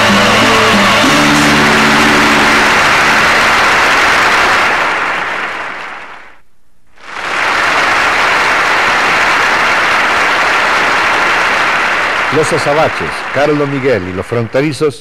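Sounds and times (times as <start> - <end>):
studio audience applauding: 0.0 - 6.4, 7.0 - 15.0.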